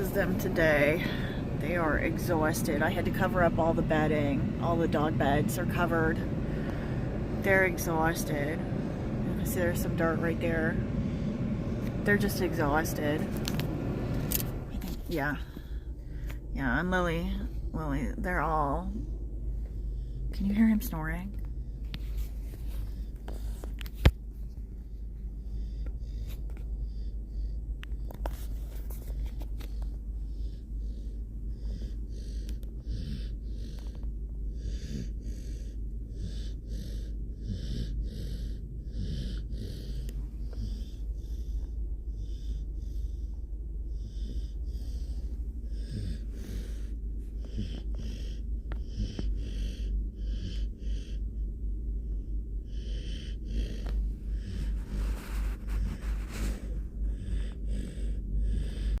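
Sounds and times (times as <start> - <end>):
puppy snoring: 0.0 - 15.8, 24.8 - 59.0
steady low hum: 0.0 - 59.0.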